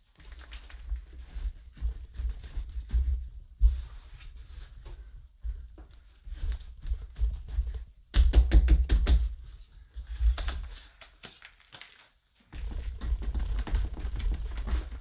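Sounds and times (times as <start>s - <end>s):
soil worked by hand in plastic pot: 0.0s - 3.3s, 5.0s - 15.0s.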